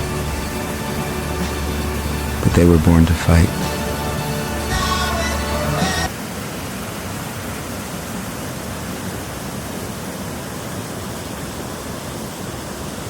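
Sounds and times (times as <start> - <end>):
fast river water rushing: 0.0 - 13.0.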